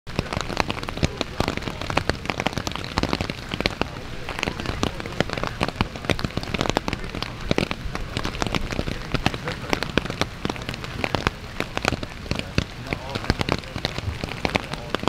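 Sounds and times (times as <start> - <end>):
rain drops hitting surface: 0.1 - 15.0.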